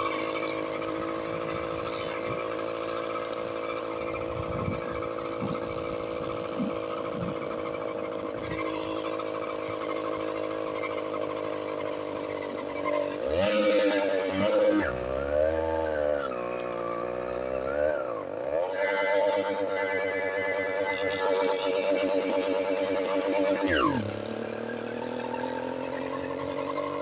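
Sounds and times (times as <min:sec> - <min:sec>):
small engine running and revving: 0:00.0 - 0:27.0.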